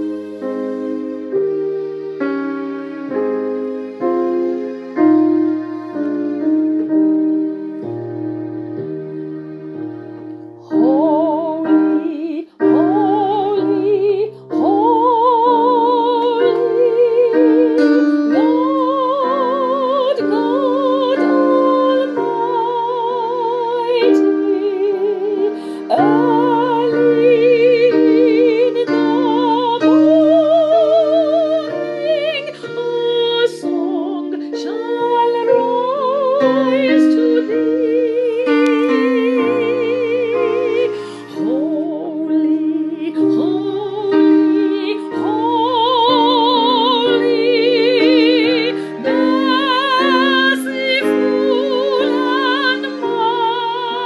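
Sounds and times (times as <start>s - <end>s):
sustained musical accompaniment: 0.0s - 54.0s
woman singing operatically: 10.7s - 54.0s.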